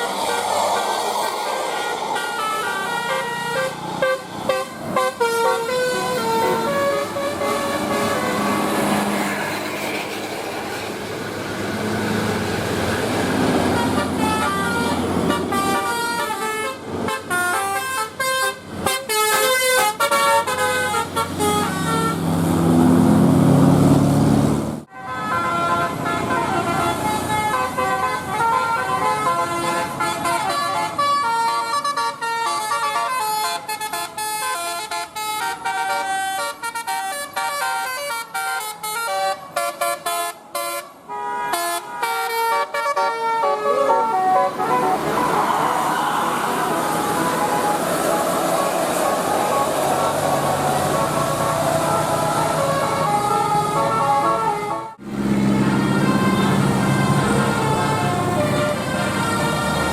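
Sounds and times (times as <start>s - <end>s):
bus engine running: 0.0s - 41.2s, 41.8s - 59.9s
bus multi-tone horn: 1.6s - 9.6s, 12.2s - 22.9s, 24.9s - 59.9s.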